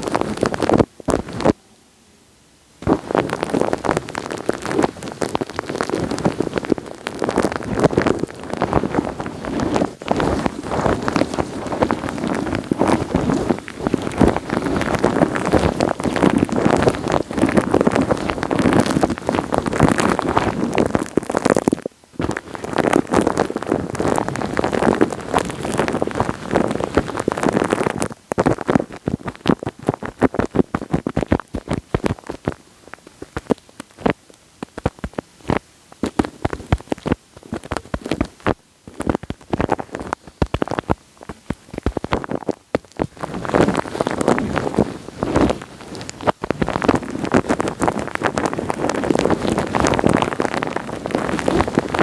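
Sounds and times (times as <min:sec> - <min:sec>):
wet sticky crackling and clicking: 0:02.8 - 0:52.0.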